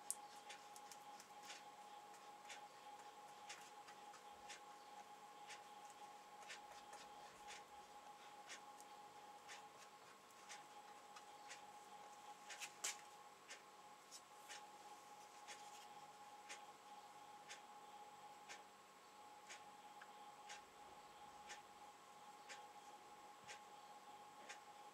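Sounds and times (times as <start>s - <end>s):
low electrical hum: 0.0s - 24.9s.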